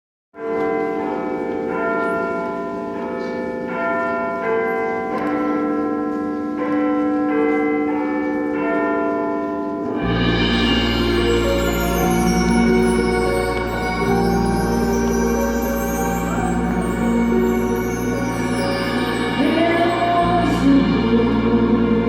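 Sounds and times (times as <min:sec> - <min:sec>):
church bells ringing: 0:00.4 - 0:22.0.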